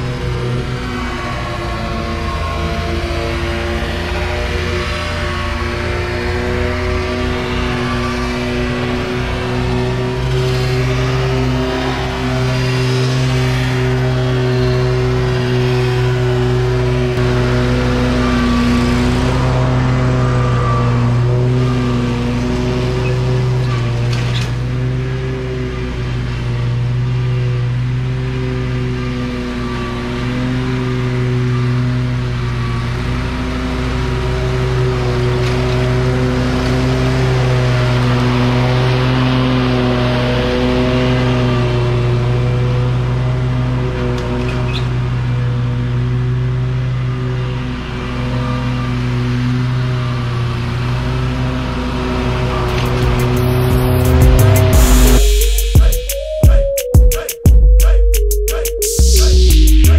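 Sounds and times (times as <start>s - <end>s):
lawn mower engine running: 0.0s - 55.7s.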